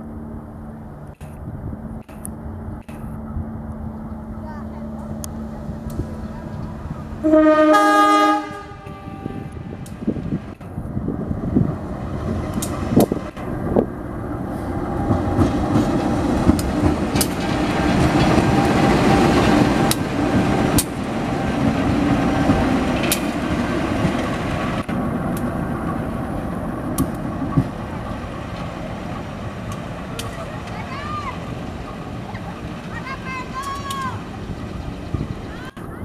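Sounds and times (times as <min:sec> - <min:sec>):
diesel locomotive engine drone: 0:00.0 - 0:36.0
train wheels on rails: 0:00.7 - 0:36.0.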